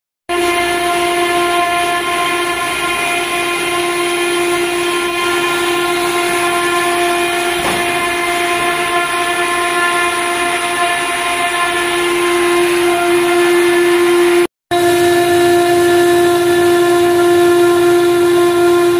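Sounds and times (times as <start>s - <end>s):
router spindle whine: 0.3s - 18.9s.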